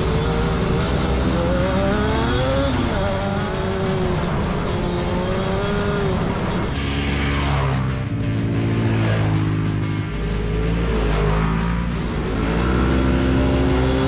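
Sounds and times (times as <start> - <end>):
background music: 0.0 - 14.0
off-road vehicle engine revving: 0.0 - 14.0.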